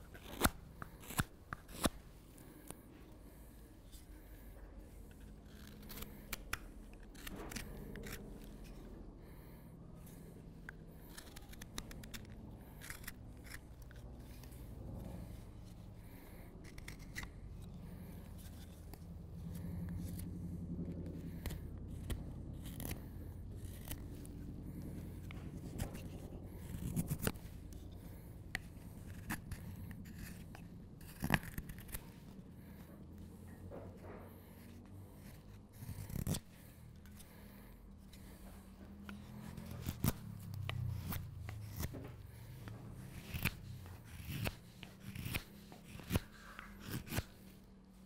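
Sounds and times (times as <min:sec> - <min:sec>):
knife slicing and scraping wood: 0:00.0 - 0:02.8, 0:05.0 - 0:47.7.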